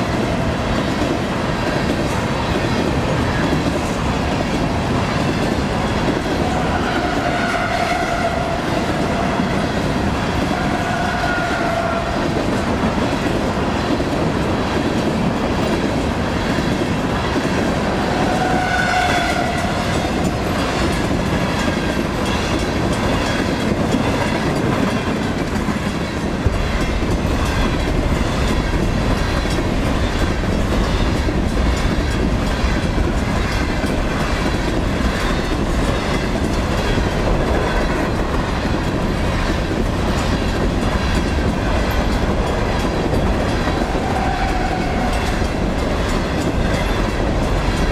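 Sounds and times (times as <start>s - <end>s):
freight train wheels clattering: 0.0s - 47.9s.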